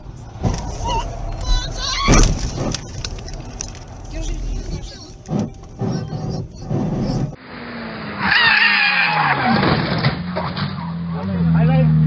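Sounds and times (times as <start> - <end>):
car tyres squealing: 0.0 - 11.3
road and cabin noises: 0.0 - 12.0.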